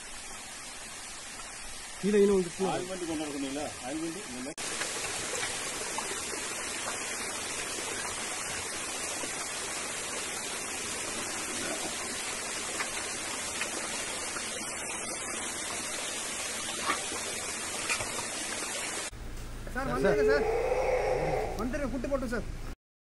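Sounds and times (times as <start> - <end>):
water splashing over rocks: 0.0 - 19.1.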